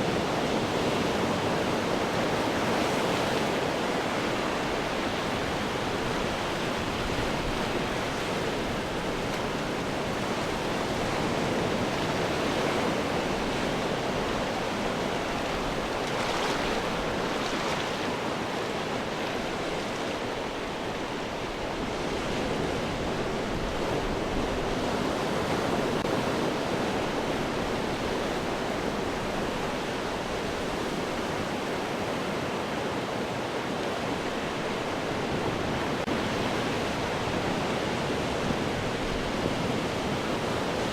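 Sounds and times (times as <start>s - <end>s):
ocean surf washing over rocks: 0.0s - 40.9s.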